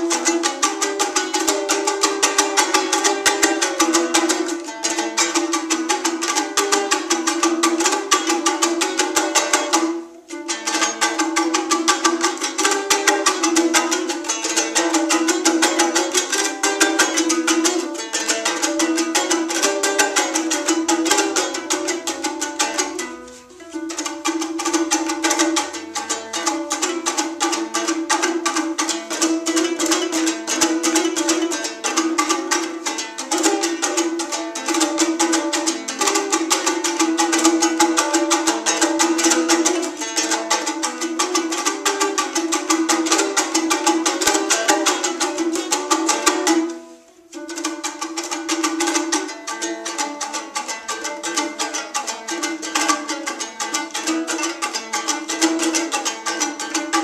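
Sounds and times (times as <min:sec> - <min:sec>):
lute strummed fast: 0:00.0 - 0:57.0.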